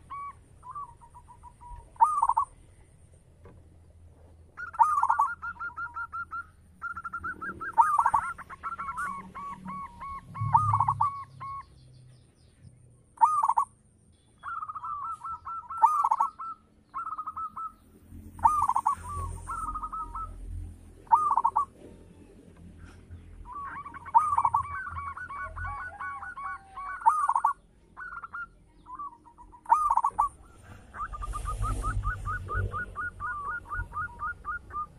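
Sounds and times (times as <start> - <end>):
dove cooing: 0.0 - 2.7, 4.6 - 11.6, 13.2 - 13.7, 14.4 - 17.8, 18.4 - 20.4, 21.0 - 21.9, 22.9 - 34.9.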